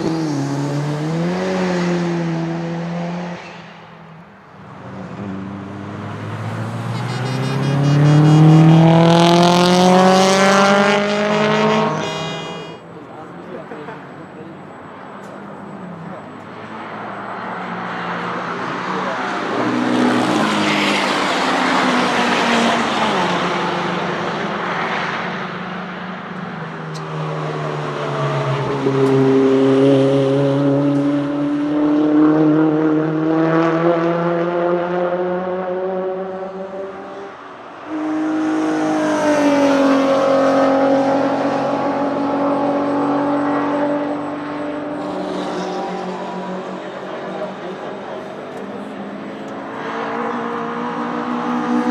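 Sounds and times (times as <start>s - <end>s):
cars driving past at speed: 0.0s - 51.9s.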